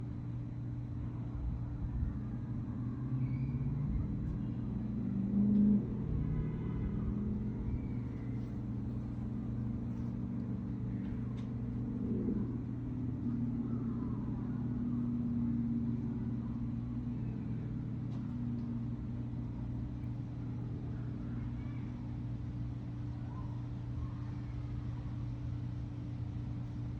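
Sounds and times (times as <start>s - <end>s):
traffic rumble: 0.0s - 26.9s.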